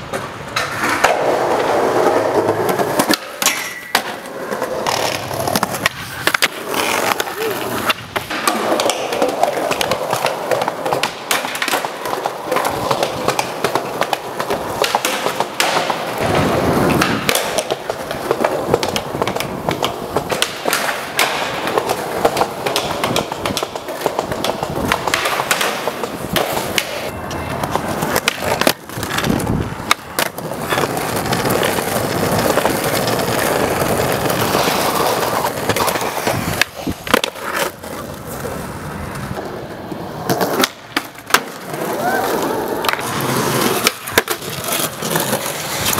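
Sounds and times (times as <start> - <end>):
skateboard clacks: 0.0 - 45.9
skateboard wheels rolling on concrete: 0.0 - 45.9.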